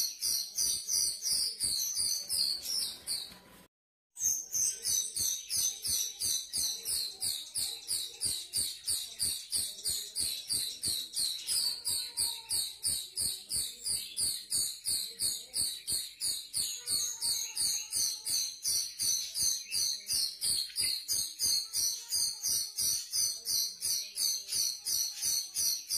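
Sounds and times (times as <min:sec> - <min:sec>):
bird chirping: 0:00.0 - 0:03.6, 0:04.2 - 0:25.9.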